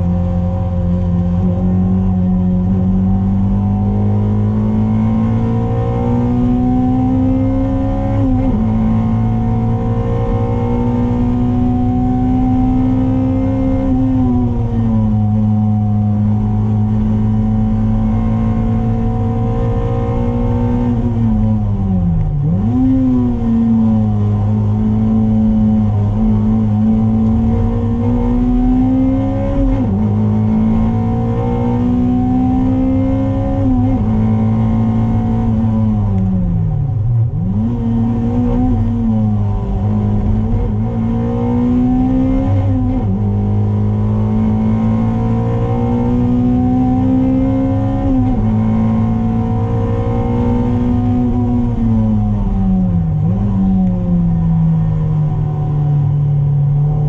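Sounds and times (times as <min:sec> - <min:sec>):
car engine pulling through gears: 0:00.0 - 0:57.0.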